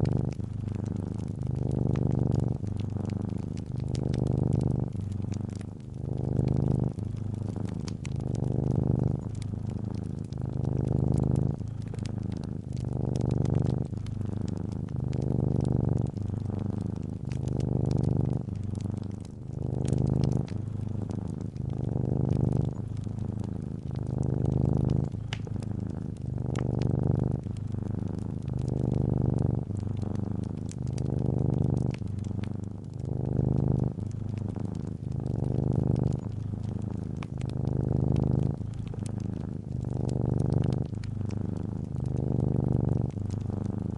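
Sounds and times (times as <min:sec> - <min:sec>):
cat purring: 0:00.0 - 0:43.9
fireplace crackling: 0:00.0 - 0:43.9.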